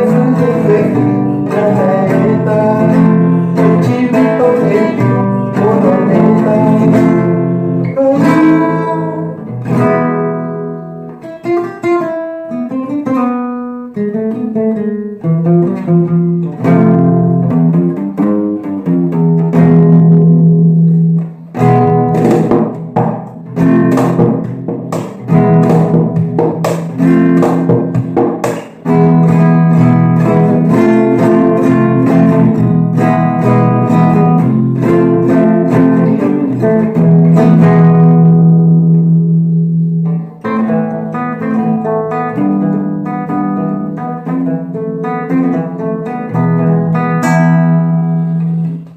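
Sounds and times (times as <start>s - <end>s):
flamenco acoustic guitar: 0.0s - 48.9s.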